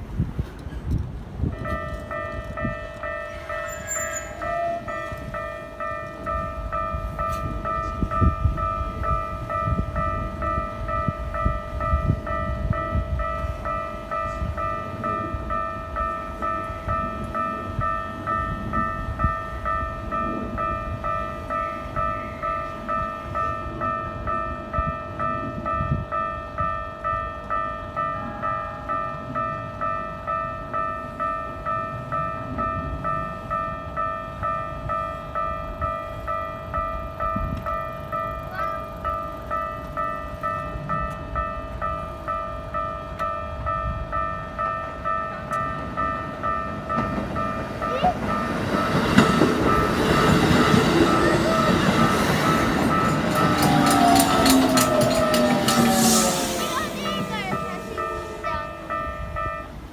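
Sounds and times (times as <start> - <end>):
level crossing warning bell: 1.4 - 59.9.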